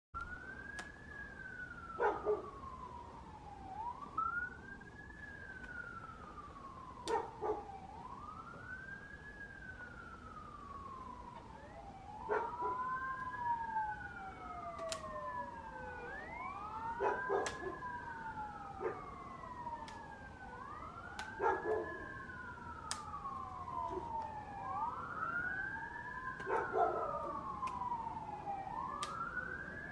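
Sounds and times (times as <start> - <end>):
fire engine sirens wailing: 0.2 - 29.9.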